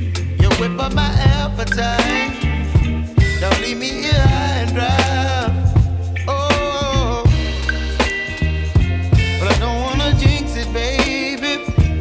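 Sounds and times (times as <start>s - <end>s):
song with bass beat: 0.0s - 12.0s.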